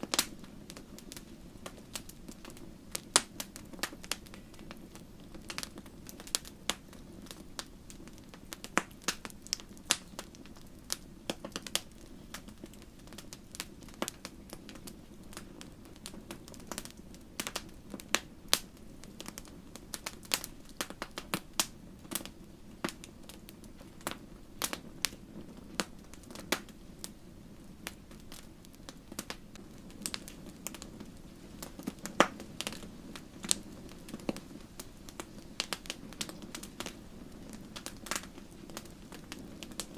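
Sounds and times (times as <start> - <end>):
low hiss: 0.0 - 39.9
wood fire crackling: 0.0 - 39.9.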